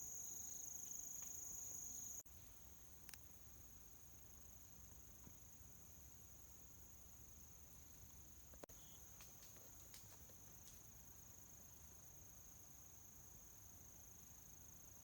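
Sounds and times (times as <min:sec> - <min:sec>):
crickets trilling: 0:00.0 - 0:05.6, 0:06.2 - 0:15.0.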